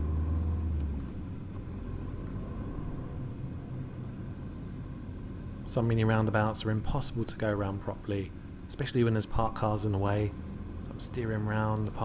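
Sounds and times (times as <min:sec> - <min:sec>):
car engine and road drone: 0:00.0 - 0:12.0
strong low engine hum: 0:00.0 - 0:12.0.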